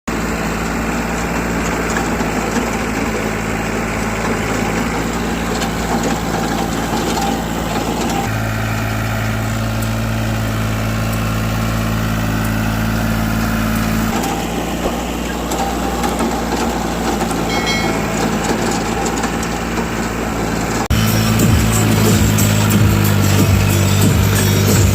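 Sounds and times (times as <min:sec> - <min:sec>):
tractor diesel engine running: 0:00.1 - 0:24.9.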